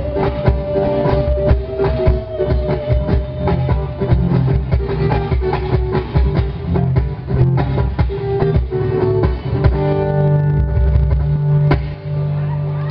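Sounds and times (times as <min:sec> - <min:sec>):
steady drum beat: 0:00.0 - 0:12.2
strummed guitar: 0:00.0 - 0:12.9.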